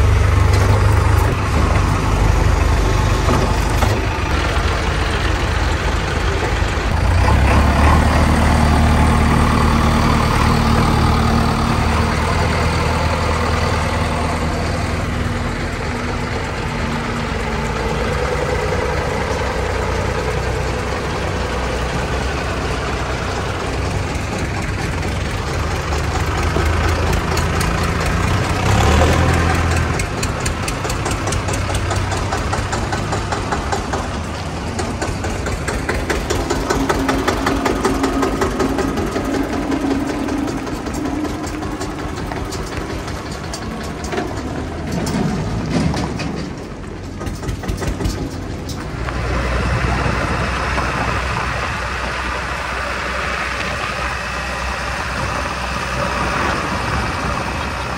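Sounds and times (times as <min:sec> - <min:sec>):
diesel engines idling: 0:00.0 - 0:57.9.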